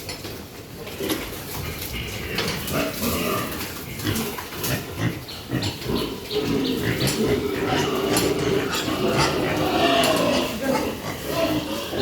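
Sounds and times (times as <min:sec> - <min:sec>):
pigs grunting: 0:00.8 - 0:12.0.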